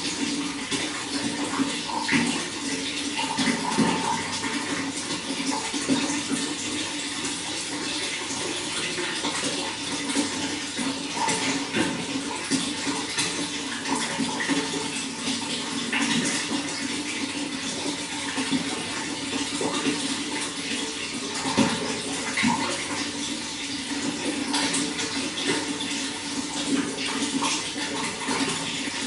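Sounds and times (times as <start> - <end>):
running water splashing: 0.0 - 29.0.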